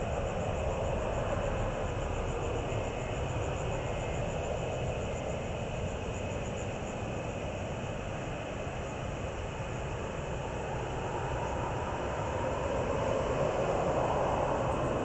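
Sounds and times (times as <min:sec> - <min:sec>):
distant city rumble: 0:00.0 - 0:15.0.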